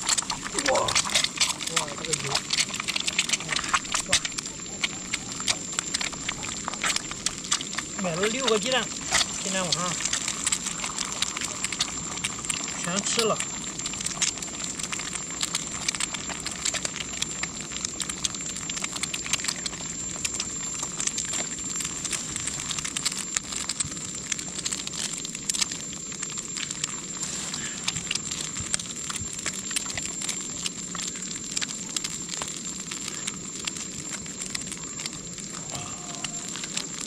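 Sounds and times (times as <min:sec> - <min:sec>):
eggs sizzling in oil: 0:00.0 - 0:37.0
oil spitting crackles: 0:00.0 - 0:37.0.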